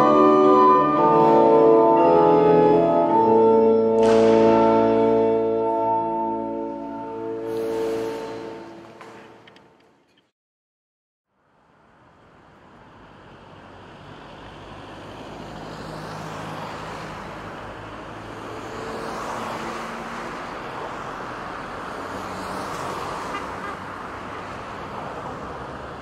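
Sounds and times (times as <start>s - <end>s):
cars passing on street: 0.0s - 10.2s, 11.3s - 26.0s.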